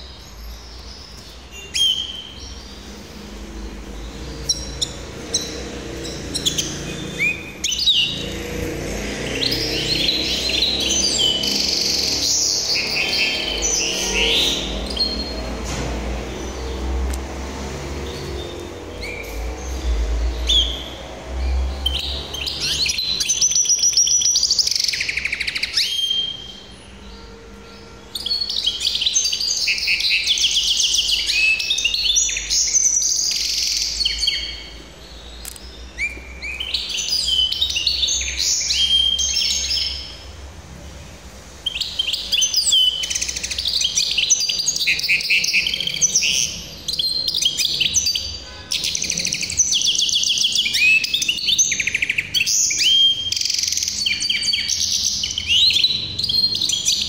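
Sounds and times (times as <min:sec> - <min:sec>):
finch singing trills: 0:00.0 - 0:40.3, 0:41.6 - 0:57.0.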